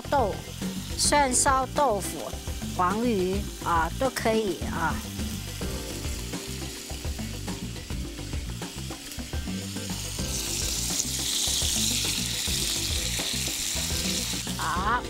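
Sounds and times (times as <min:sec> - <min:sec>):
oil sizzling in a wok: 0:00.0 - 0:15.0.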